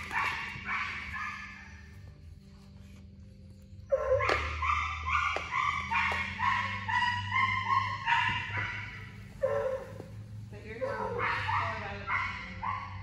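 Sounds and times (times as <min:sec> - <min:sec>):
dog yipping: 0:00.0 - 0:02.1, 0:03.9 - 0:10.2, 0:10.8 - 0:13.0.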